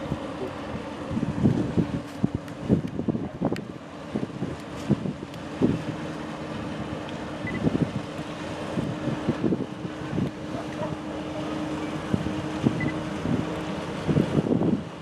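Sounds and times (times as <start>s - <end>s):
ship engines humming: 0.0s - 15.0s
wind buffeting microphone: 0.0s - 15.0s.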